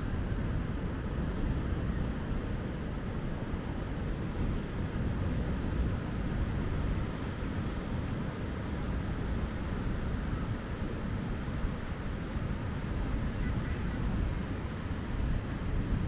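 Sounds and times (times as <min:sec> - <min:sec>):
surf washing on beach: 0:00.0 - 0:16.0
wind buffeting microphone: 0:00.1 - 0:16.0.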